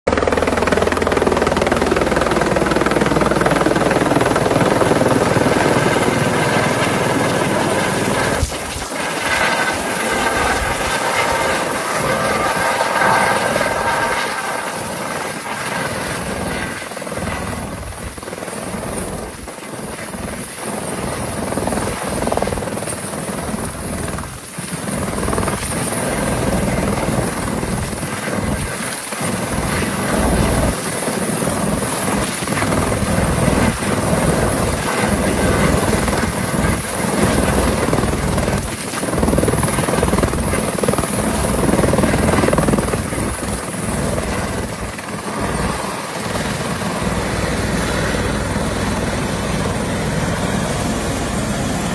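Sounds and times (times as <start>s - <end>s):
helicopter rotor and engine: 0.1s - 51.9s.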